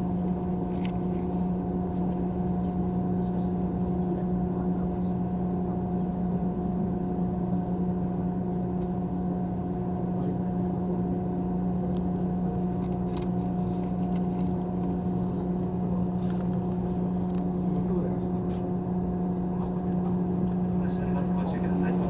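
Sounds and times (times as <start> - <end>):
electric train interior hum: 0.0 - 22.0.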